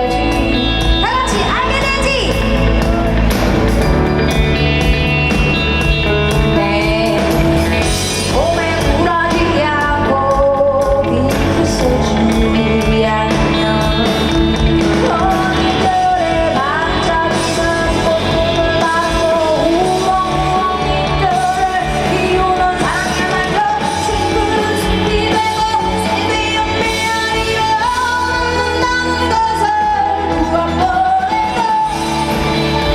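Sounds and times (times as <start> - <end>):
woman singing: 0.0 - 3.0, 6.3 - 32.9
live band music: 0.0 - 32.9.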